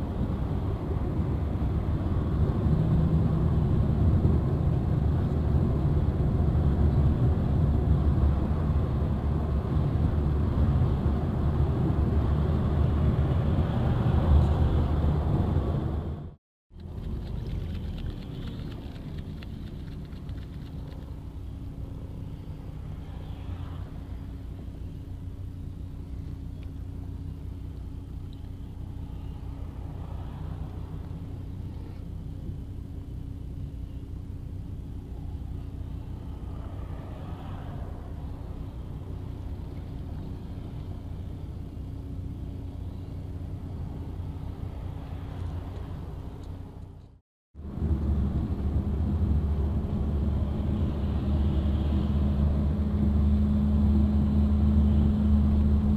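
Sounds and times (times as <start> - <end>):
vehicle road and engine rumble: 0.0 - 55.9.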